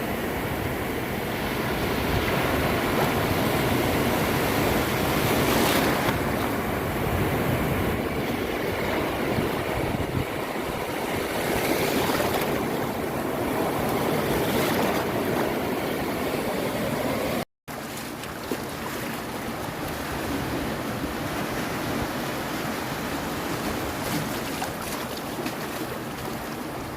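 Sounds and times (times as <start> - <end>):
ocean waves washing onto beach: 0.0 - 26.9.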